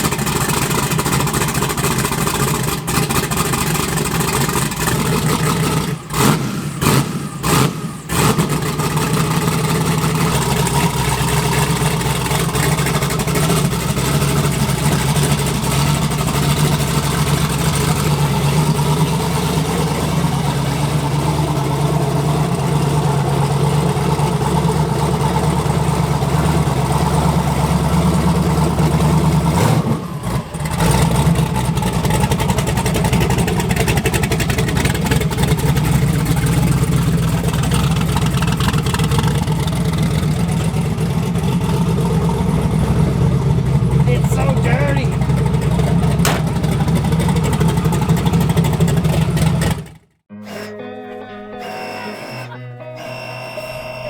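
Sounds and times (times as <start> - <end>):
drag car engine running: 0.0 - 54.0.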